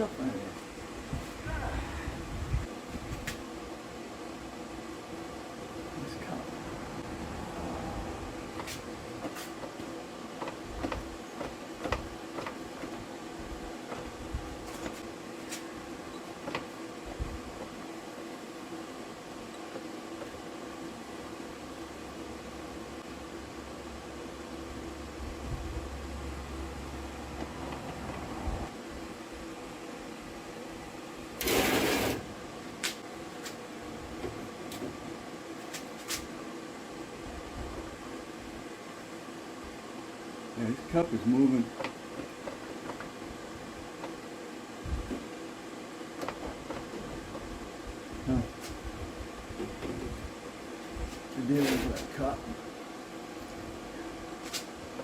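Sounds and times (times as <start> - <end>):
steady background hum: 0.0 - 55.0.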